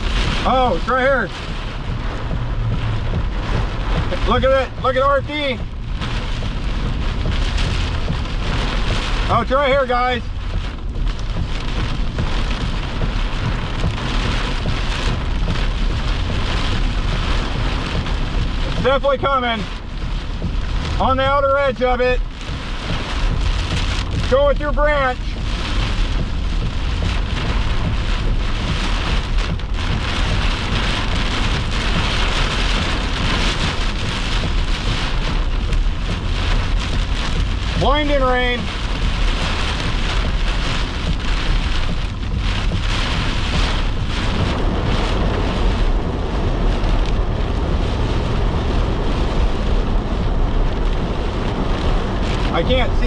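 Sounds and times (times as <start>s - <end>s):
heavy rain on a vehicle: 0.0s - 53.0s
low rumble: 0.0s - 53.0s.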